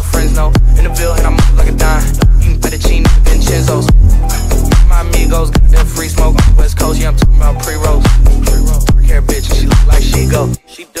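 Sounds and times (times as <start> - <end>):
hip hop music with heavy bass: 0.0 - 11.0.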